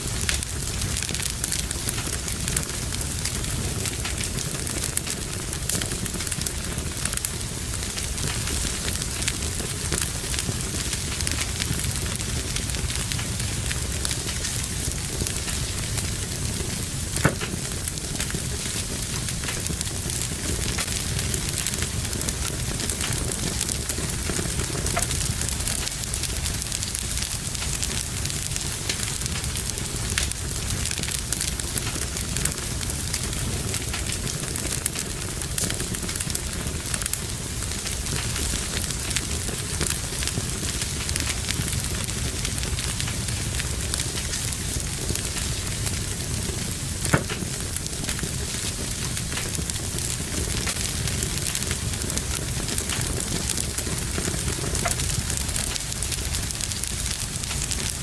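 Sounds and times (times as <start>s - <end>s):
fire crackling in a fireplace: 0.0s - 58.0s
fire popping: 0.0s - 58.0s
low rumble of flame: 0.0s - 58.0s.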